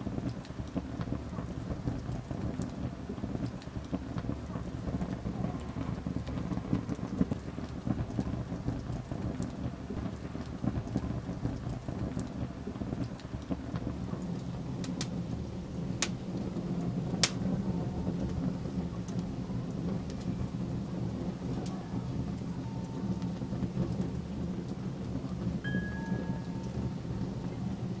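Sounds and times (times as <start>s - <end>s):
fire crackling pops: 0.0s - 28.0s
wood fire rumbling: 0.0s - 28.0s.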